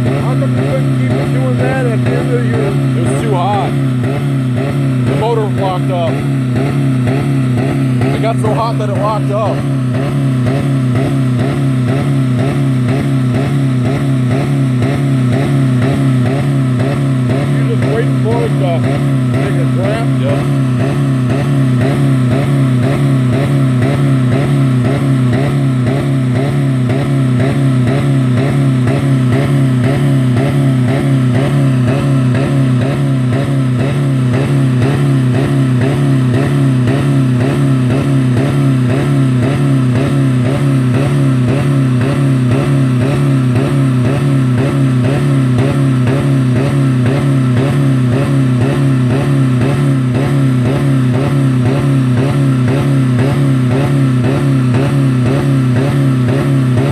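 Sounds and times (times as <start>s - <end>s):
car engine revving at limiter: 0.0s - 56.9s.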